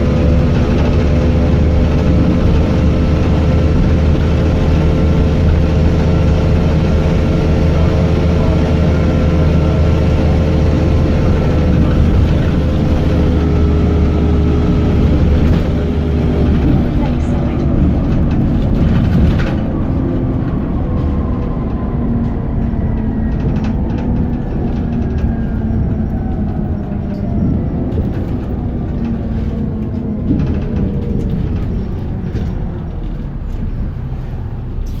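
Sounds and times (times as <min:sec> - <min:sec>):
bus drivetrain rumble: 0:00.0 - 0:35.0
light rattles and knocks: 0:00.1 - 0:35.0.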